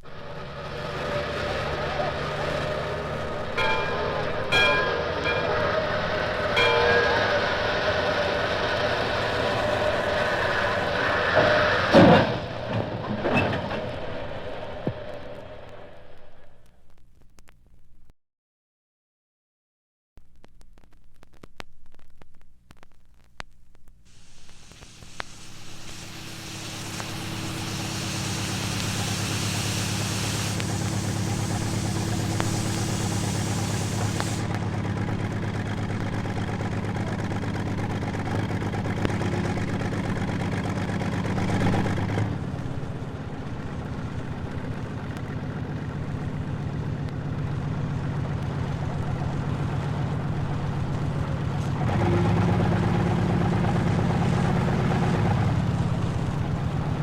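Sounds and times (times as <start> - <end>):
vehicle engine starting and running: 0.0 - 16.8, 24.1 - 57.0.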